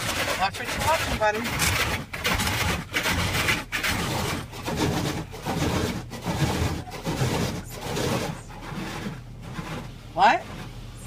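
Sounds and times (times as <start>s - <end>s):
car wash brushes swishing: 0.0s - 11.0s.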